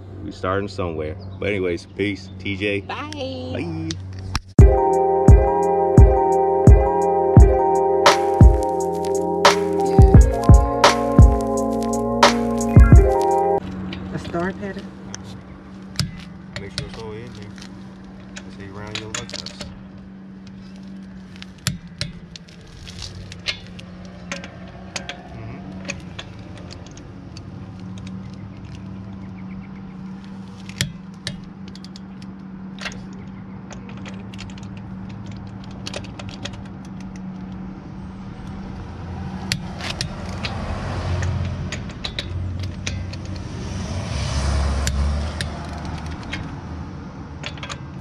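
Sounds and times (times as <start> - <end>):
low engine hum: 0.0 - 48.0.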